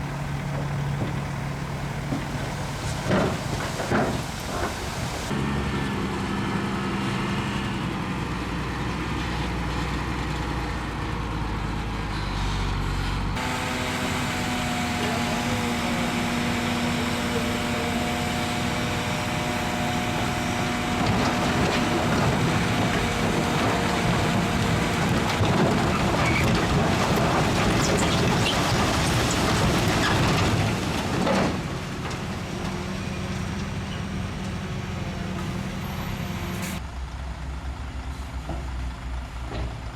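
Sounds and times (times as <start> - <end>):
diesel machinery engine: 0.0 - 39.9.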